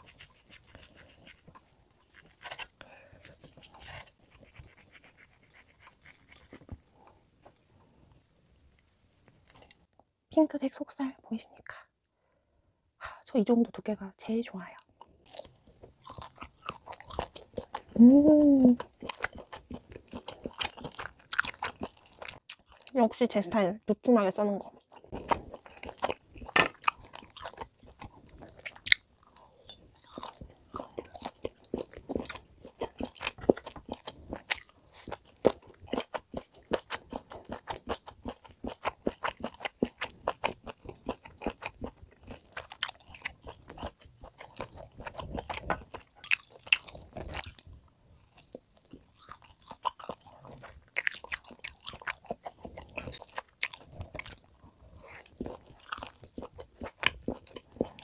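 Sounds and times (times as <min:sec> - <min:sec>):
chewing steak: 0:00.0 - 0:09.9, 0:15.2 - 0:18.0, 0:18.7 - 0:23.0, 0:24.6 - 0:58.0.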